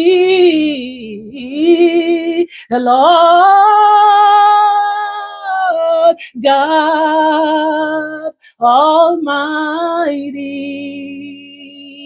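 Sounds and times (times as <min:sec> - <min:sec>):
woman singing worship song: 0:00.0 - 0:12.0.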